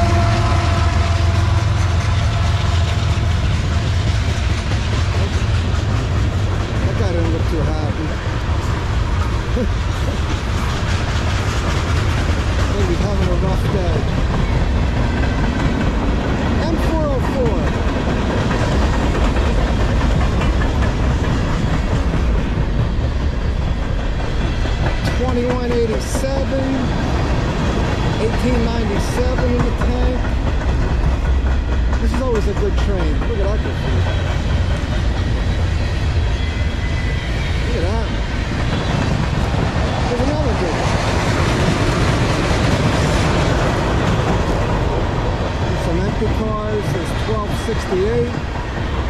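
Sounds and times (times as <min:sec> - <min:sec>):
rail clacking: 0:00.0 - 0:49.0
train wheels rumbling on rails: 0:00.0 - 0:49.0.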